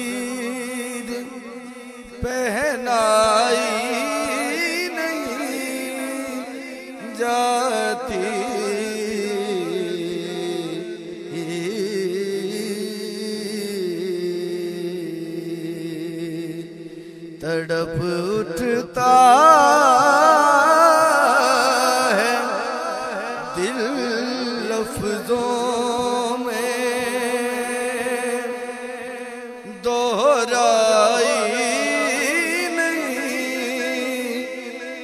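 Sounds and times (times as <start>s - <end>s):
man chanting devotional poem: 0.0s - 35.0s.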